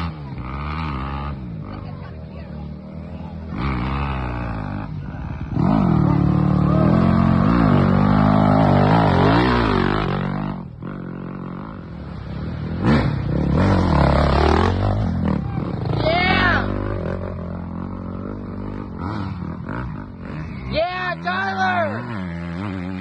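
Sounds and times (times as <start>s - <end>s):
dirt bike engines revving: 0.0s - 23.0s
dirt bike passing close: 0.0s - 23.0s.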